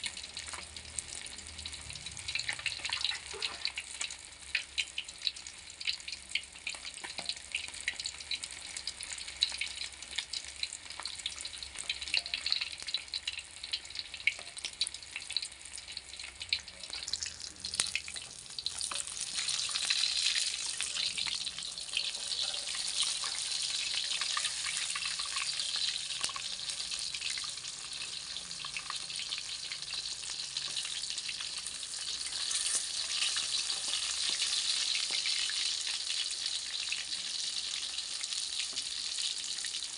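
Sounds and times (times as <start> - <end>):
fish deep-frying in oil: 0.0 - 39.9.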